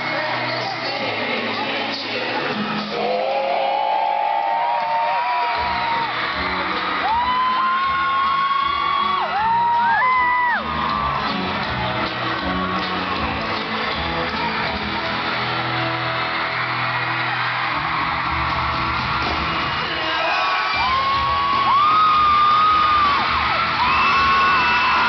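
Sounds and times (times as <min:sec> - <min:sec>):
crowd screaming: 0:00.0 - 0:25.0
live pop-rock band: 0:00.0 - 0:25.0.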